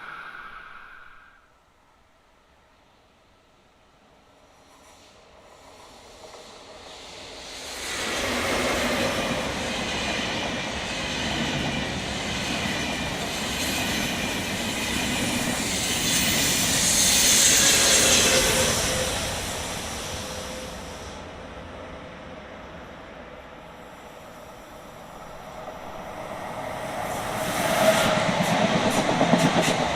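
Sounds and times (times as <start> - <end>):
train wheels on rails: 4.3 - 29.9.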